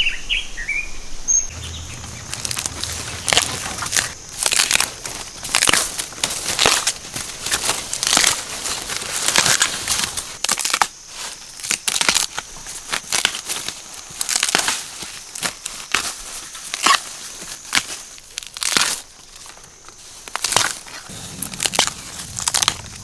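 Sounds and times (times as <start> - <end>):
bamboo shoots snapping: 1.5 - 23.0
dry leaves rustling: 1.5 - 23.0.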